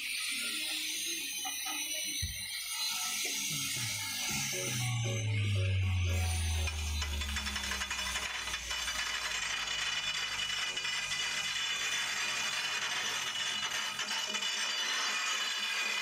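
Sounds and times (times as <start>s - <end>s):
electric tool grinding stone: 0.0s - 16.0s.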